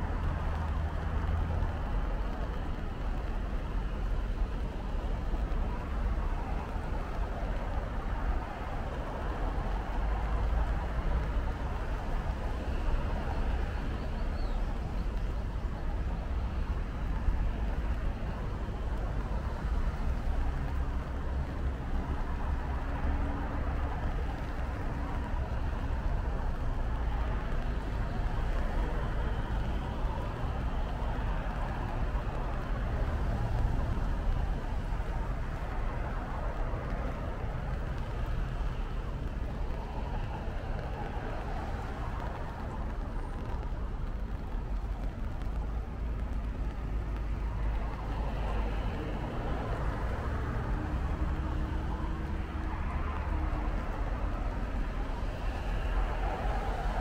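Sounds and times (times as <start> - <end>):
low rumble of road traffic: 0.0 - 57.0
rain hiss: 0.0 - 57.0.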